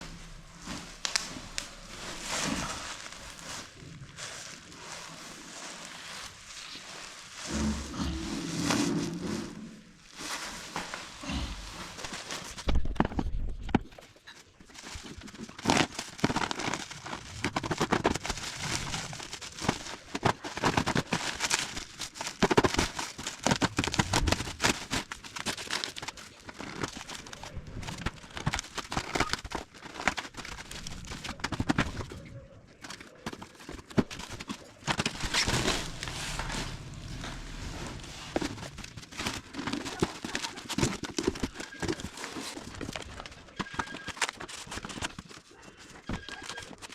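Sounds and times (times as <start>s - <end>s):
packaging rustling and crinkling: 0.0s - 46.9s.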